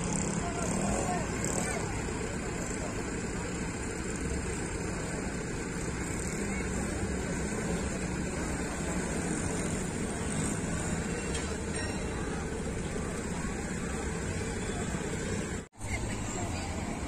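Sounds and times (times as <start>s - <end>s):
engine running: 0.0s - 17.0s
outdoor noise: 0.0s - 17.0s.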